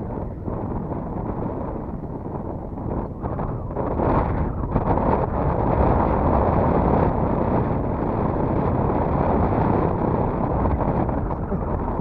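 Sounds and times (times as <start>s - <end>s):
water moving around boat: 0.0s - 12.0s
wind buffeting microphone: 0.0s - 12.0s.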